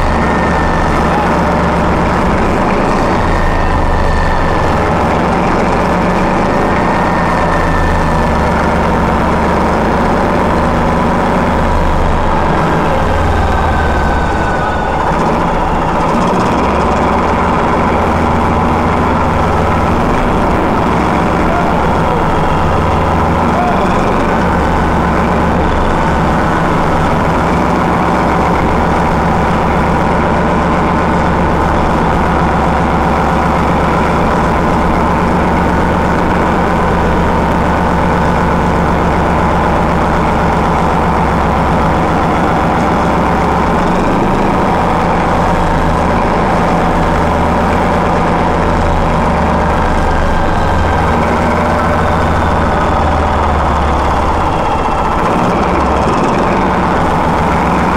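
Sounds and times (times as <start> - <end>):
diesel locomotive engine droning: 0.0 - 57.9.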